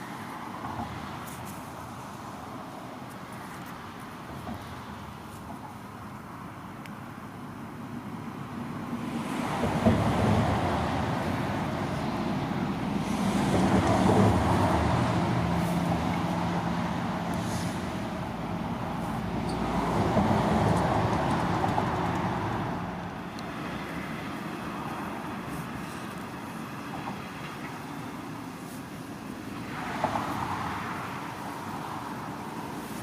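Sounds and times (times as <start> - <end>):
train engine drone: 6.0 - 33.0.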